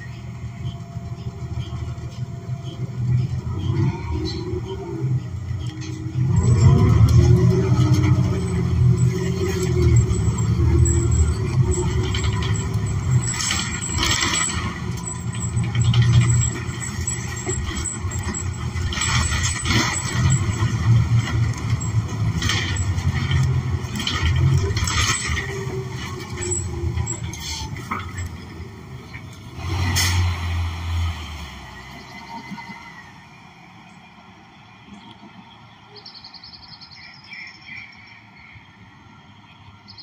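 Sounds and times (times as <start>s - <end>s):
bus cabin rattling and clunking: 0.0s - 35.8s
bus engine low rumble: 0.0s - 40.0s.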